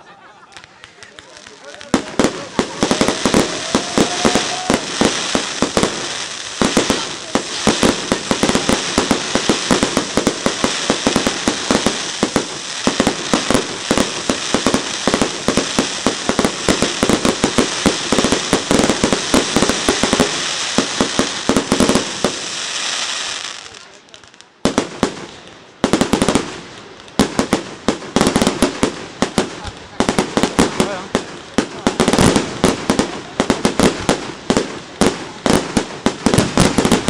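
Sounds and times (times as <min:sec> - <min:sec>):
fireworks bangs: 0:00.0 - 0:37.0
fireworks crackling: 0:00.0 - 0:37.0.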